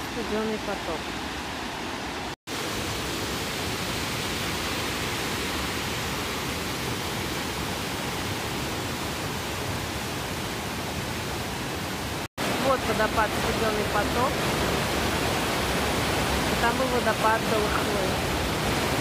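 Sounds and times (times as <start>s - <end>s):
stream cascading over rocks: 0.0s - 19.0s.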